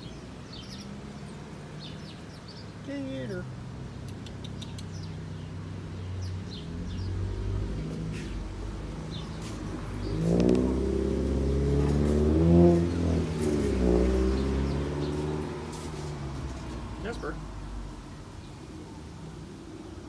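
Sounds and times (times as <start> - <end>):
vehicle engine passing by: 0.0 - 18.4.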